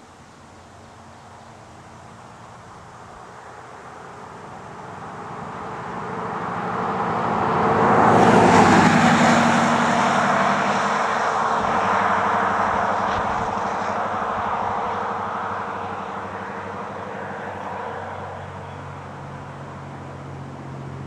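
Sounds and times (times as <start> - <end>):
engine passing by: 2.0 - 21.0.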